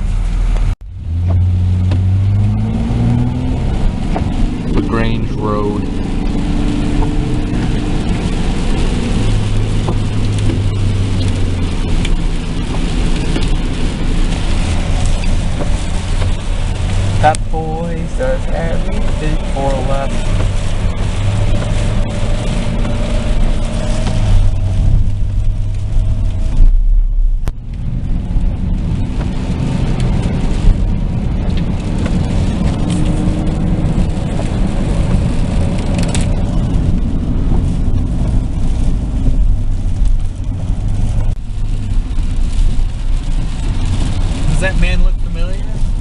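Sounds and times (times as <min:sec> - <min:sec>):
car engine hum: 0:00.0 - 0:46.0.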